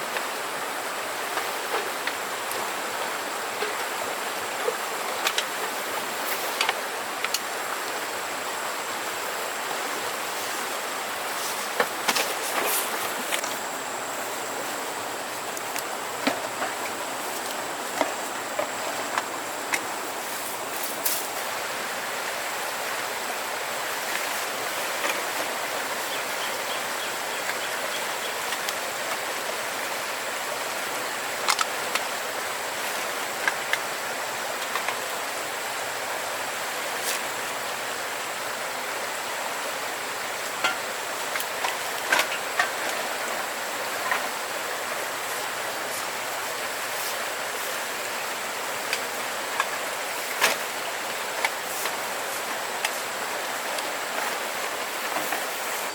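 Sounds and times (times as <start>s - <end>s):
flowing river water: 0.0s - 55.9s.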